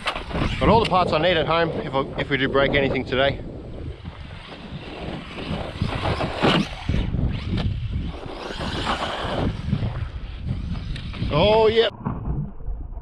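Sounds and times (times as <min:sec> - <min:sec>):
rc truck motor and tyres: 0:00.0 - 0:02.4, 0:03.4 - 0:11.7
wind buffeting microphone: 0:00.0 - 0:13.0.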